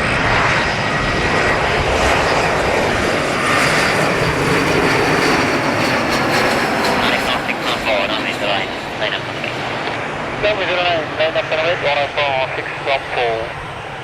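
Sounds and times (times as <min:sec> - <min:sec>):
jet engines of airliner landing: 0:00.0 - 0:14.0.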